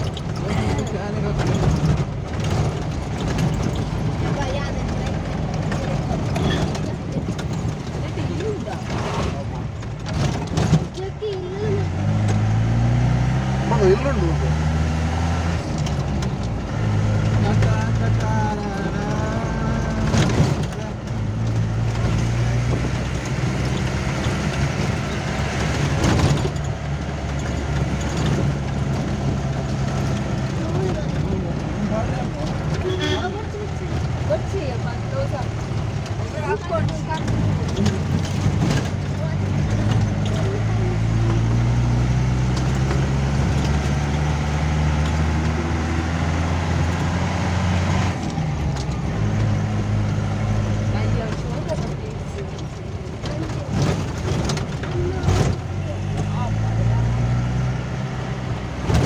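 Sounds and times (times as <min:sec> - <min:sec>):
car engine running: 0:00.0 - 0:59.0
road noise: 0:00.0 - 0:59.0.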